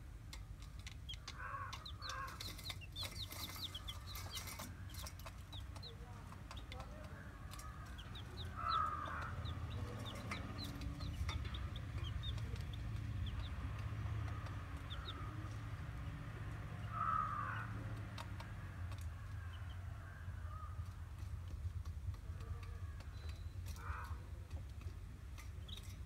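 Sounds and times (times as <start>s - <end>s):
chicks peeping: 0.3s - 26.0s.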